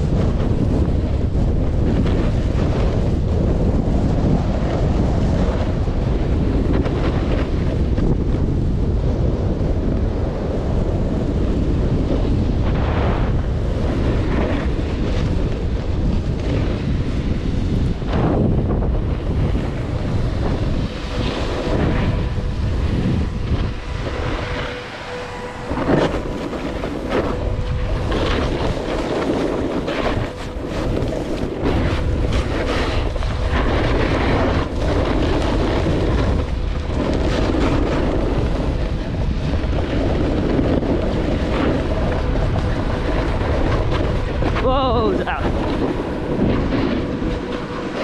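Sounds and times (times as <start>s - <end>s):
snowboard edge scraping snow: 0.0s - 48.0s
wind rumble on microphone: 0.0s - 48.0s.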